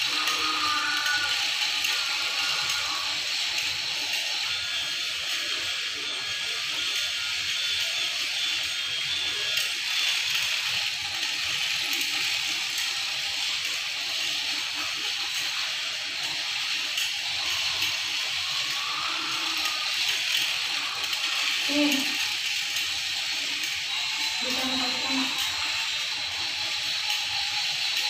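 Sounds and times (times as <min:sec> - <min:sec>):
toy train motor whirring: 0:00.0 - 0:28.0.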